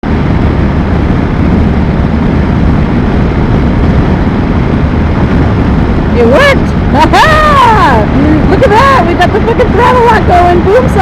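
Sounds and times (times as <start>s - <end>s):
wind rushing over the microphone: 0.0s - 11.0s.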